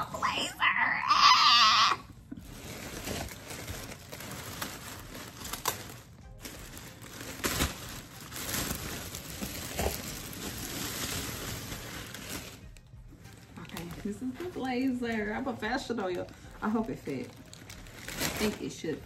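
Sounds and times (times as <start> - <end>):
plastic garment bag crinkling: 1.2 - 19.0.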